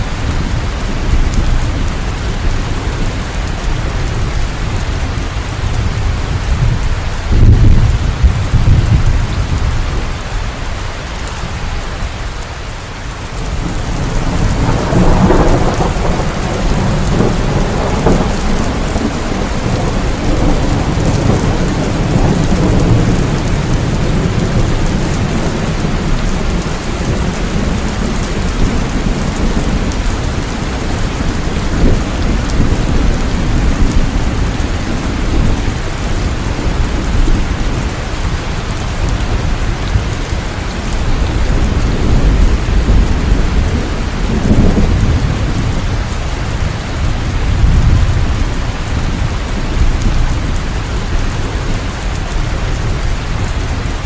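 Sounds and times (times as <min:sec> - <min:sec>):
thunder rolling: 0:00.0 - 0:10.0, 0:13.4 - 0:54.0
steady rain: 0:00.0 - 0:54.0.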